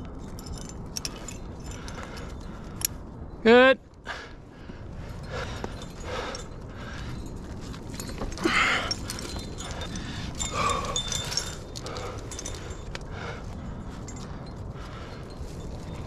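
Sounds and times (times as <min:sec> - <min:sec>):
climber breathing hard: 0:00.0 - 0:03.1, 0:04.0 - 0:16.0
metallic clinks of climbing gear: 0:00.0 - 0:16.0.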